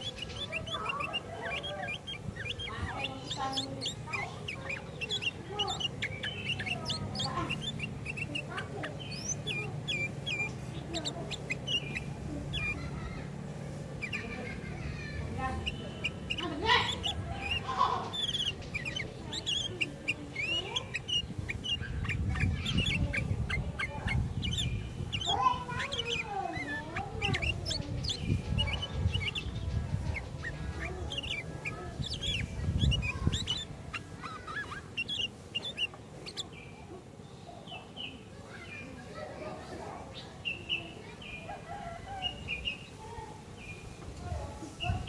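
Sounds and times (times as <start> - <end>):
low gliding bird calls: 0.0 - 36.8
birds chirping and whistling: 0.0 - 45.0.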